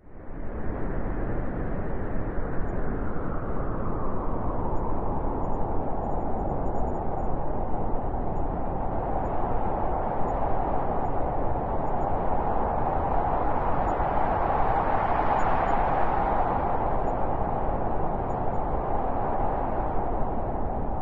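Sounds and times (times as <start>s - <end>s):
howling blizzard wind: 0.0s - 21.0s.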